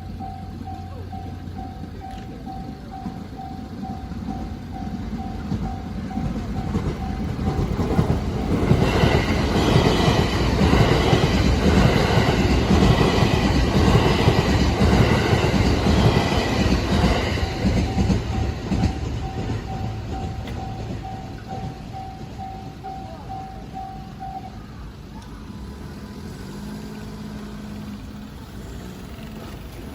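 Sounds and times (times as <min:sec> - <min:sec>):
crossing warning bell ringing: 0:00.0 - 0:25.1
train rumble and wheel clatter: 0:00.0 - 0:29.9.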